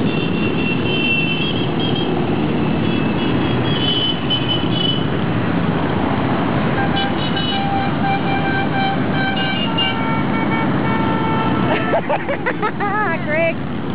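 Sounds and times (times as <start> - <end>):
motorcycle engines rumbling: 0.0 - 13.9.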